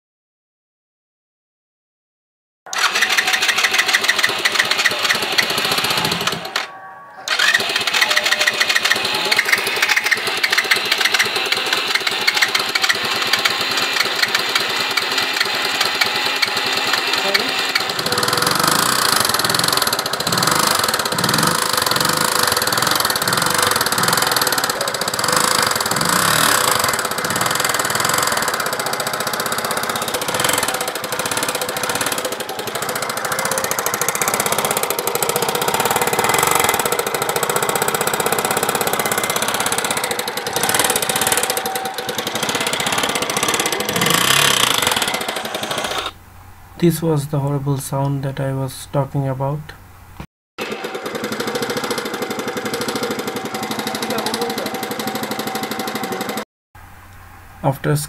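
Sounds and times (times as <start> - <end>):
rapid engine knocking: 2.7 - 6.6, 7.3 - 46.2, 50.6 - 56.4
scooter engine running: 2.7 - 46.2, 50.6 - 56.5.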